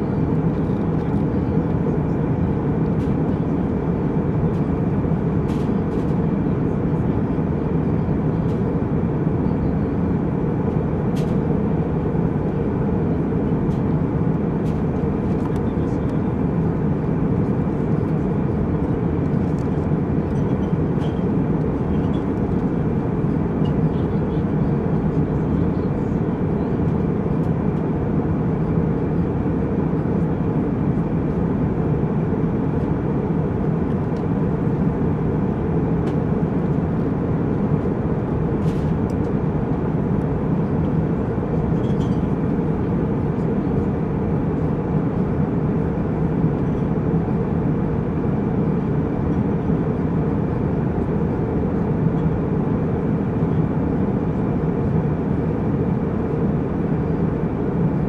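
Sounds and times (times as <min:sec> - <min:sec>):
jet cabin engine and airflow noise: 0:00.0 - 0:58.0.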